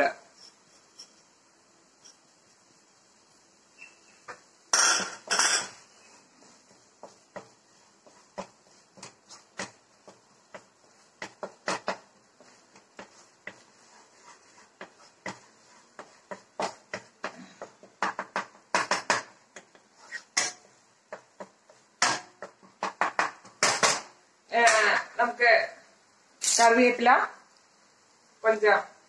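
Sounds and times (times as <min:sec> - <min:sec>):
wooden spatula scraping a pan: 0:00.0 - 0:02.7, 0:03.7 - 0:24.9.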